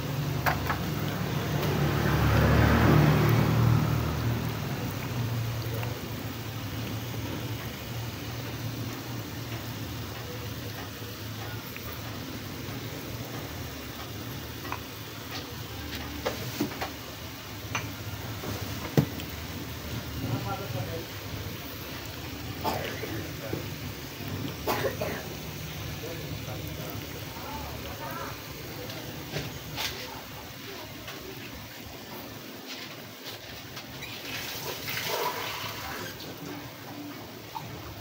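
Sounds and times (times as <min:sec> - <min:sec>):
pan simmering on stove: 0:00.0 - 0:38.0.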